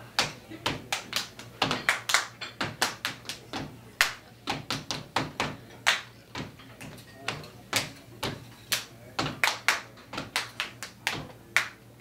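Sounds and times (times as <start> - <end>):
hand claps and slaps: 0.2 - 11.8.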